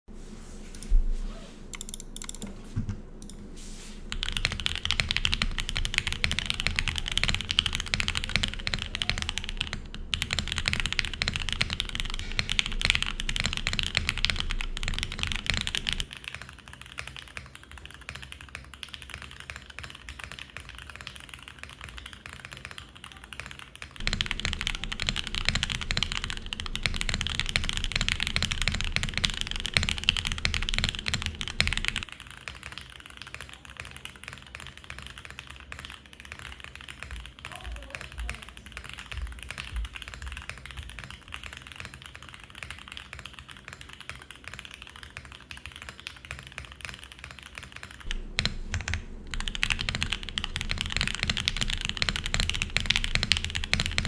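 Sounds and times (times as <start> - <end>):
mechanical keyboard typing: 1.7 - 16.5, 24.0 - 54.0.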